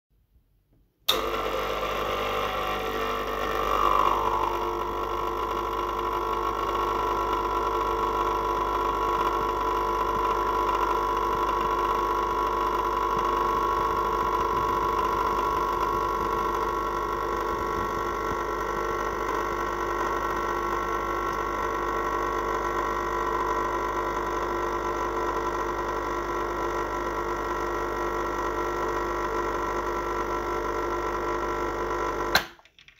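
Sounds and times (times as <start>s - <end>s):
espresso machine pump buzzing: 1.1s - 32.5s.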